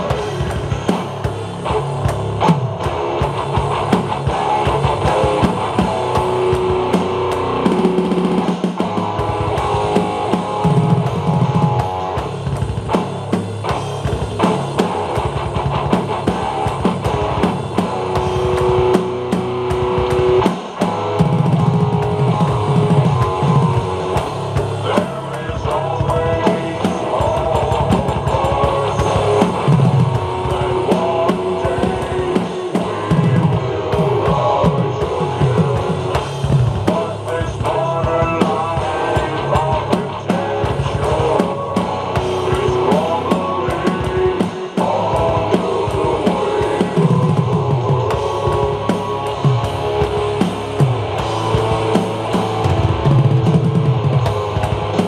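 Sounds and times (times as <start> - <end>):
drum kit played hard: 0.0 - 55.0
recorded rock song with guitar: 0.0 - 55.0.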